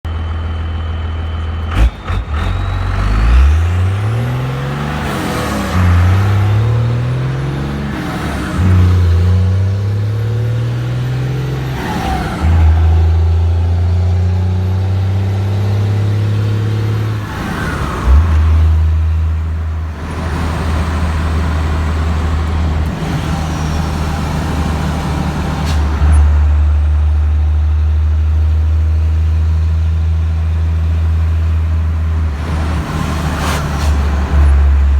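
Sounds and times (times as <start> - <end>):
diesel engine shifting gears: 0.1 - 34.9.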